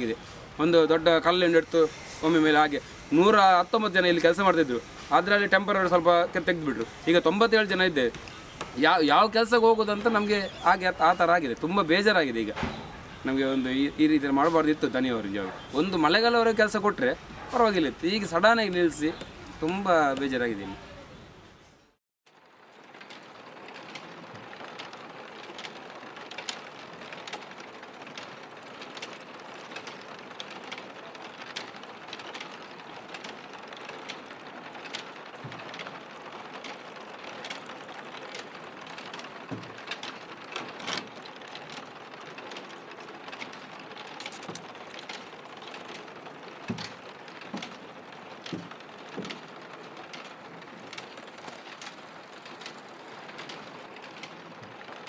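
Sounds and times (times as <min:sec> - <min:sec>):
machinery clattering: 0:00.0 - 0:20.7, 0:22.8 - 0:55.0.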